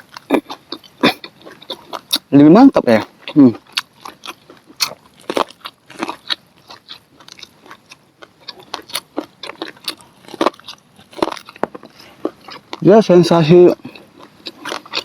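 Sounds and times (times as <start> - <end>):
crunchy chewing of corn: 0.0 - 15.0.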